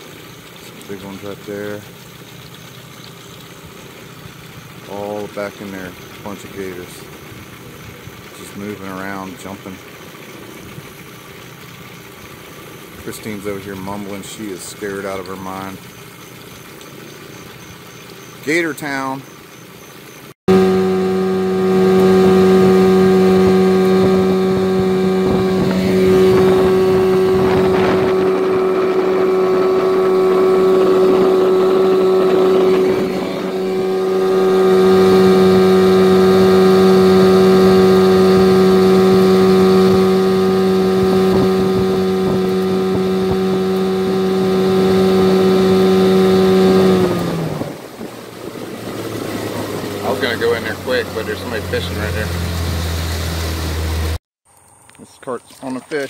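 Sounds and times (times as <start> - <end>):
outboard motor running: 0.0 - 54.2.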